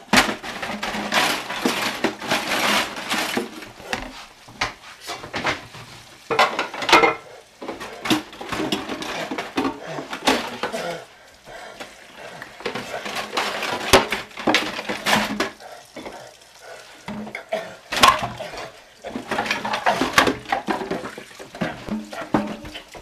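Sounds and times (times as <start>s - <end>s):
dishes clattering in metal sink: 0.0s - 11.0s, 11.8s - 16.2s, 17.0s - 23.0s
running tap: 0.0s - 23.0s.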